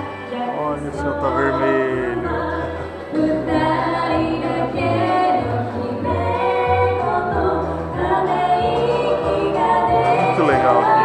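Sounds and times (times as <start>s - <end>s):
instrumental accompaniment with bass: 0.0s - 11.0s
women singing together: 0.0s - 11.0s.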